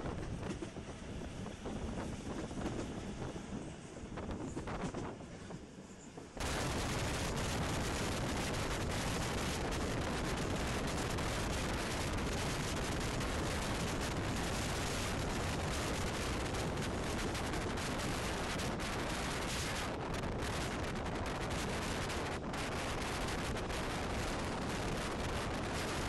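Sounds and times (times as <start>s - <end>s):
wind buffeting microphone: 0.0s - 5.6s, 6.4s - 26.0s
train running on track: 0.0s - 26.0s.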